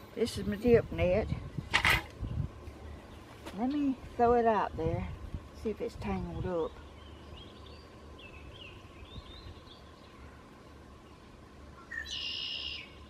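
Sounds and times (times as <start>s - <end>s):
songbirds chirping faintly: 0.0s - 13.0s.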